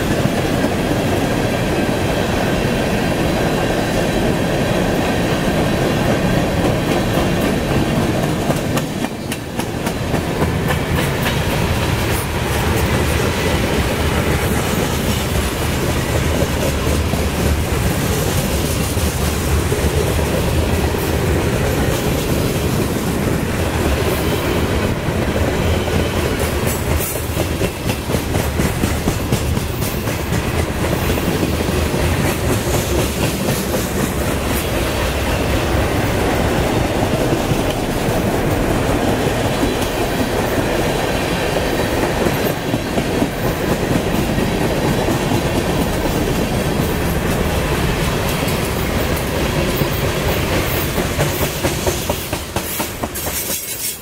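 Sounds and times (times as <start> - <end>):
freight train wheels rumbling: 0.0 - 54.0
train wheels clicking on rails: 0.0 - 54.0.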